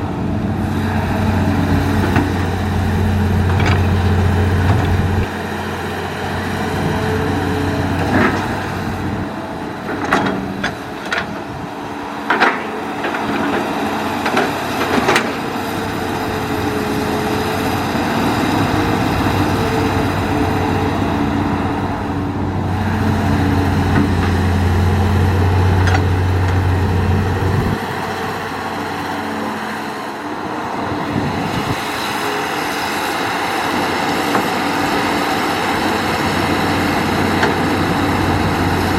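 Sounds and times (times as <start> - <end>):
excavator diesel engine droning: 0.0 - 38.9
hydraulic whine: 0.0 - 38.9.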